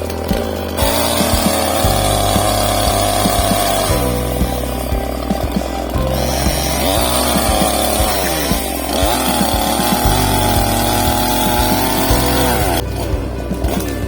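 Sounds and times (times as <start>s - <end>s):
chainsaw running: 0.0s - 14.0s.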